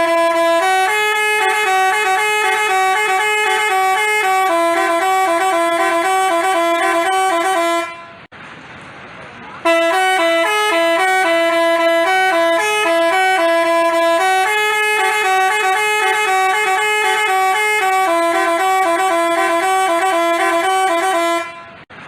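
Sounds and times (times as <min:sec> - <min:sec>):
musical bus horn playing a tune: 0:00.0 - 0:08.3, 0:09.6 - 0:22.0.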